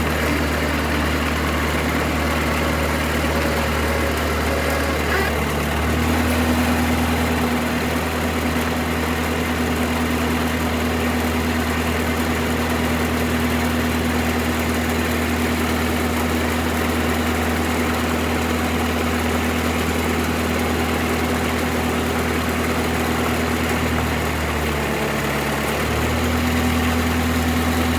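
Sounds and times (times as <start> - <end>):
stump grinder engine running: 0.0 - 27.9.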